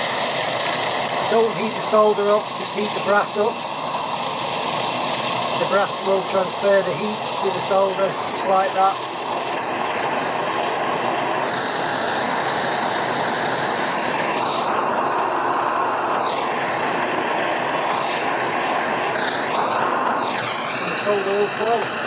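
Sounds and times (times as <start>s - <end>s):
propane torch flame burning: 0.0s - 22.0s.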